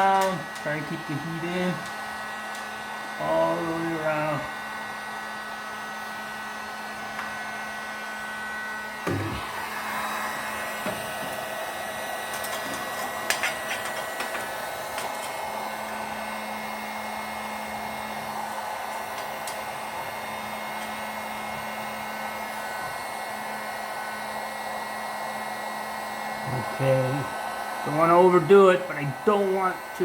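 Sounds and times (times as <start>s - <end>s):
heat gun blowing: 0.0s - 30.0s.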